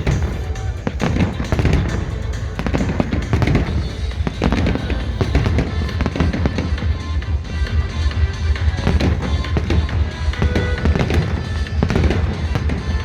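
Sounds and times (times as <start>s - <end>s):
continuous rumble: 0.0s - 13.0s
fireworks bangs and crackles: 0.0s - 13.0s
music playing: 0.0s - 13.0s.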